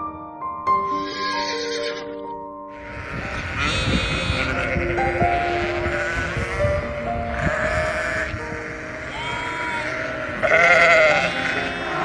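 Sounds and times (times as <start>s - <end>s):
slow background music: 0.0s - 12.0s
sheep bleating: 0.9s - 12.0s.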